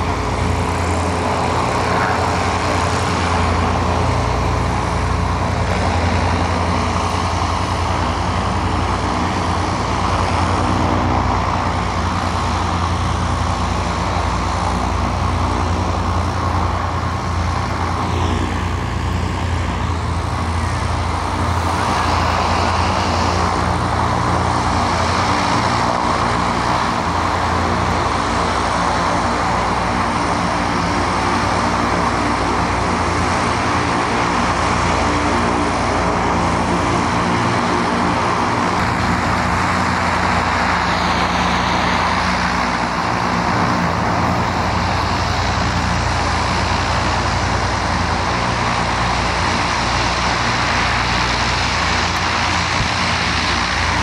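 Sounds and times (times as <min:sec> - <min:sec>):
airship engines and propellers droning: 0:00.0 - 0:54.0.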